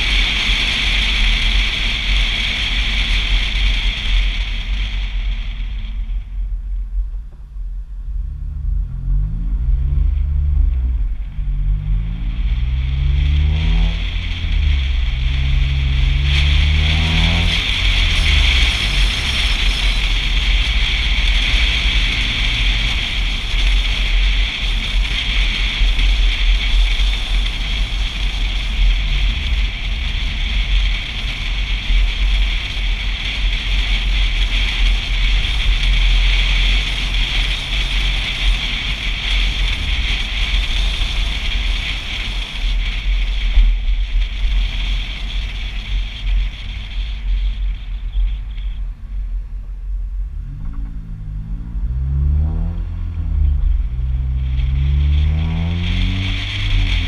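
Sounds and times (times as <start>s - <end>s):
wind buffeting camera: 4.2s - 57.0s
car engine accelerating: 7.0s - 57.0s.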